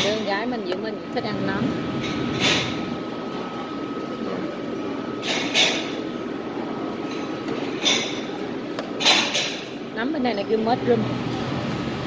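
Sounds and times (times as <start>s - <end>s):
busy restaurant background noise: 0.0s - 12.0s.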